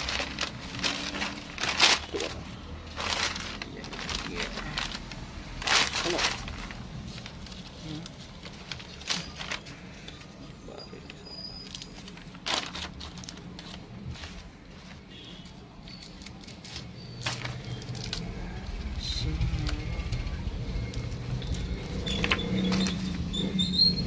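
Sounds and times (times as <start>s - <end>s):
packaging wrapper rustling: 0.0s - 10.5s, 11.5s - 15.1s, 15.9s - 23.2s.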